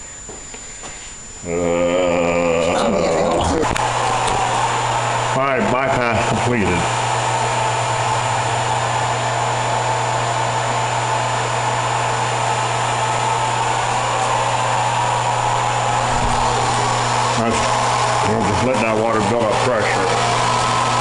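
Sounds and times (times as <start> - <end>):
machine hum: 0.0 - 21.0
fan whooshing: 3.4 - 21.0.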